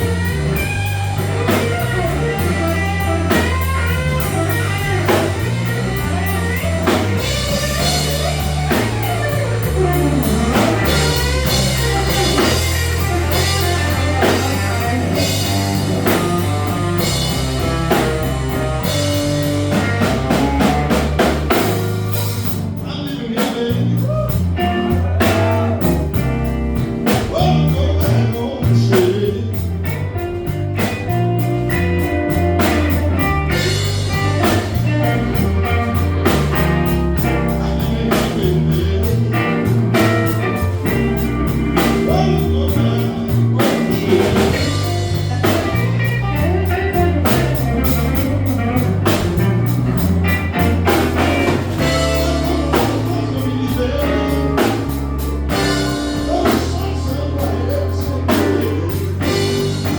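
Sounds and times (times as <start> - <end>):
bass: 0.0 - 59.9
drum kit: 0.0 - 59.9
electric guitar bending notes: 0.0 - 59.9.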